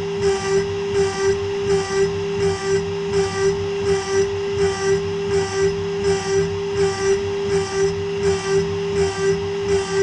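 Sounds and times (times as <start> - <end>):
router cutting metal: 0.0 - 10.0
spindle whine: 0.0 - 10.0.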